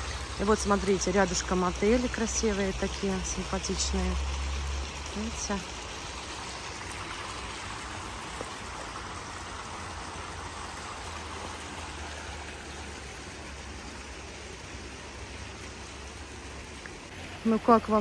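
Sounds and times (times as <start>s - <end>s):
fountain splashing into pond: 0.0s - 18.0s.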